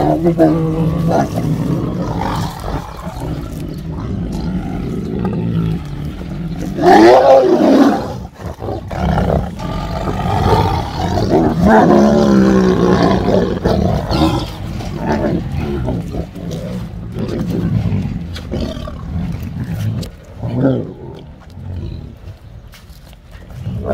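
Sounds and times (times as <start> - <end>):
tigers snarling loudly: 0.0 - 22.3
tigers growling: 0.0 - 22.7, 23.3 - 23.9.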